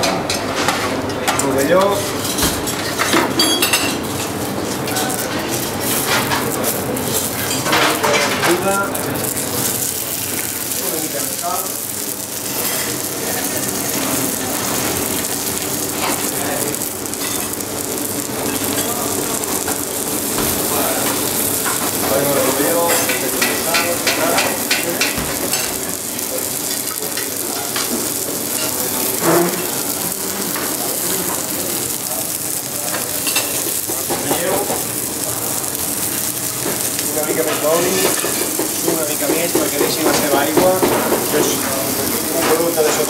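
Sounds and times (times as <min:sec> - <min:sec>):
kitchen clatter: 0:00.0 - 0:43.0
mushrooms sizzling on a griddle: 0:01.4 - 0:43.0.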